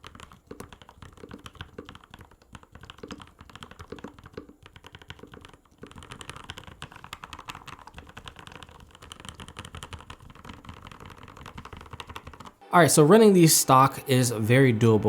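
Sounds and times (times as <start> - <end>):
mechanical keyboard typing: 0.0 - 12.6.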